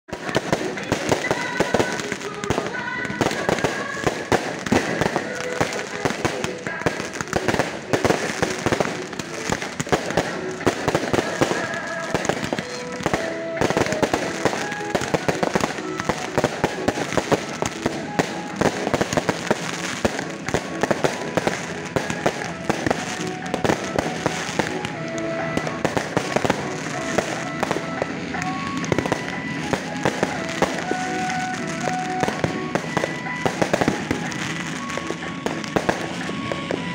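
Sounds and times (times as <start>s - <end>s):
fireworks cracks and bangs: 0.1s - 36.9s
music playing: 0.1s - 36.9s.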